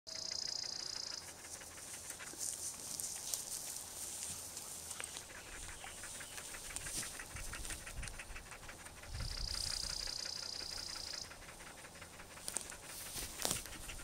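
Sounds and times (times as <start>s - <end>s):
dogs panting: 0.1s - 14.0s.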